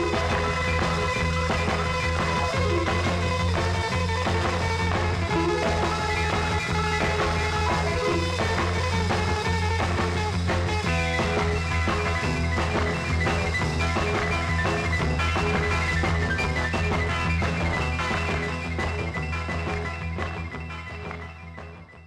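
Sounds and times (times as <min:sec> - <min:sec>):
rock music with steady bass: 0:00.0 - 0:22.0.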